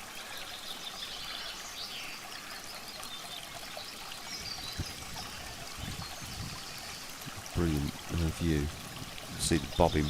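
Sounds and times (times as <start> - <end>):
shallow river over stones: 0.0 - 10.0.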